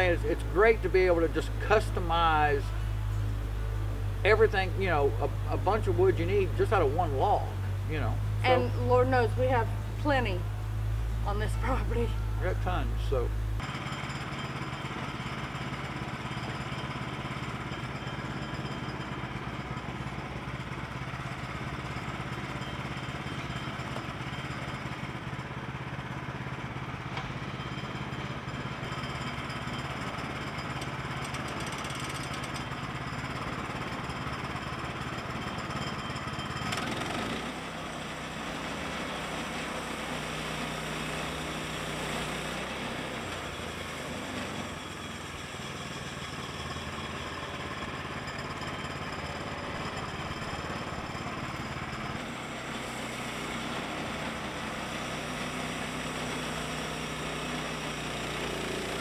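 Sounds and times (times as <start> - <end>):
bandsaw mill engine running: 0.0 - 59.0.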